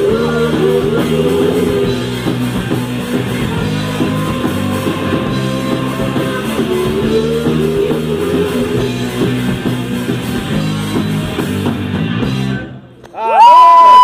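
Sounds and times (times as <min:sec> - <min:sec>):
drums striking: 0:00.0 - 0:12.6
live rock band playing: 0:00.0 - 0:13.0.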